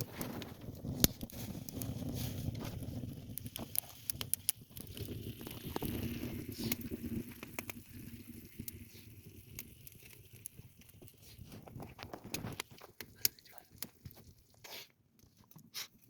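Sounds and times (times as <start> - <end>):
sharp pops and snaps: 0.0 - 15.9
wood fire crackling: 0.0 - 16.0.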